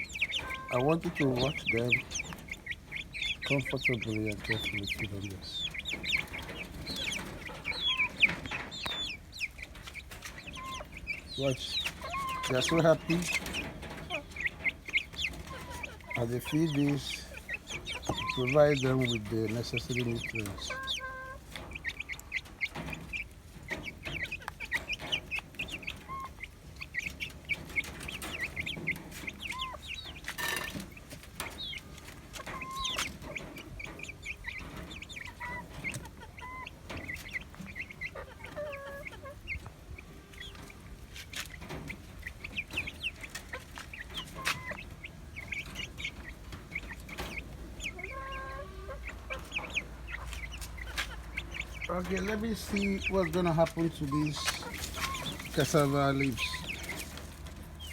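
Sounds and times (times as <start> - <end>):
chickens clucking and cheeping: 0.0 - 57.9.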